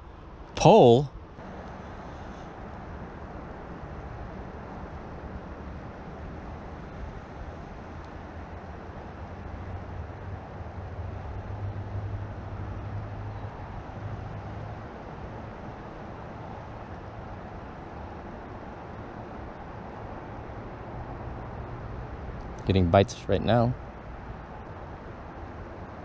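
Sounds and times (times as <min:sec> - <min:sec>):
distant road traffic rumble: 0:00.0 - 0:26.0.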